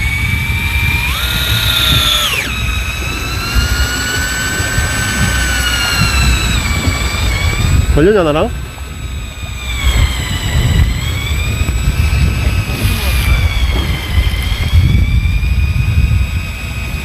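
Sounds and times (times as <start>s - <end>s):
faint high wavering whine: 0.0s - 17.0s
wind buffeting microphone: 0.0s - 17.0s.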